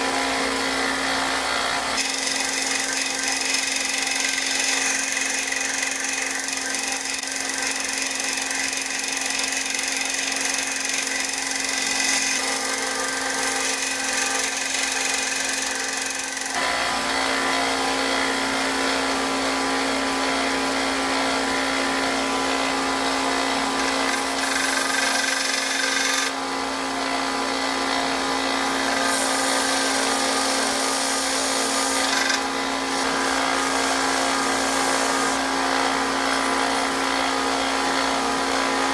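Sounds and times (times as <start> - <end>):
belt sander grinding metal: 0.0 - 38.9
shop vacuum running: 0.0 - 38.9.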